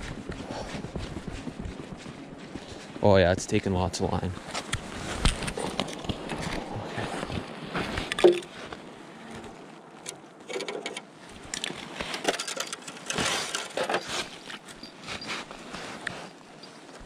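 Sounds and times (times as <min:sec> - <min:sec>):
snowsuit rustling: 0:00.0 - 0:09.8, 0:13.1 - 0:17.0.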